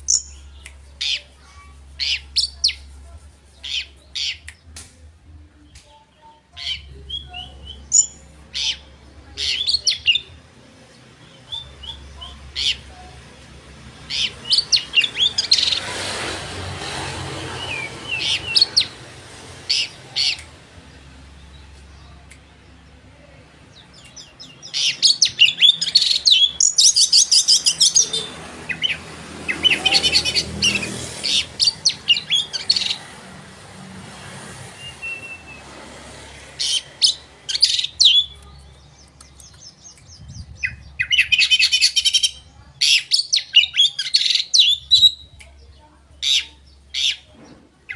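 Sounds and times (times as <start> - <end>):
bird singing chirps and trills: 0.0 - 4.7, 5.4 - 15.9, 17.0 - 33.4, 36.5 - 47.9.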